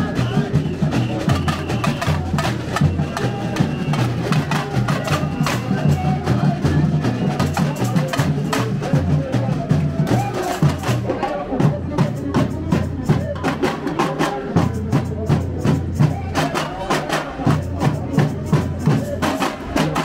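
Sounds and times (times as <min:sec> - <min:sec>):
bass drums pounding: 0:00.0 - 0:16.7
fast snare drum strokes: 0:00.0 - 0:20.0.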